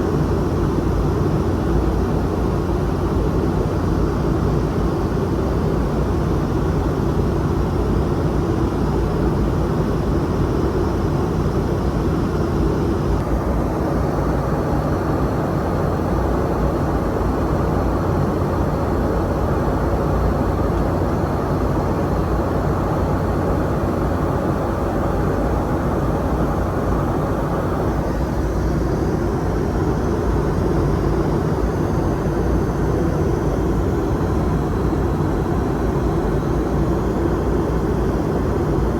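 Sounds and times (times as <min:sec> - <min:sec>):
airplane cabin engine rush: 0:00.0 - 0:38.9.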